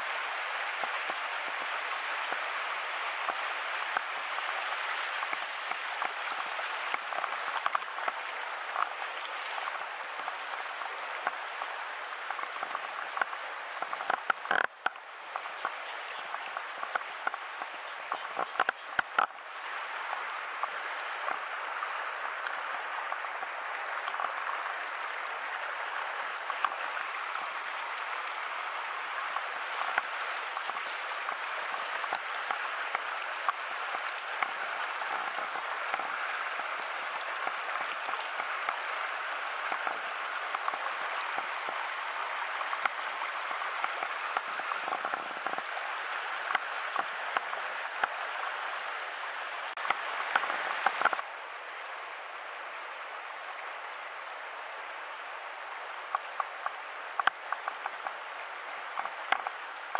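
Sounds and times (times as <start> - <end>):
stream rushing over rocks: 0.0 - 59.9
faint ticks: 0.7 - 48.6, 49.8 - 51.3, 55.6 - 59.9.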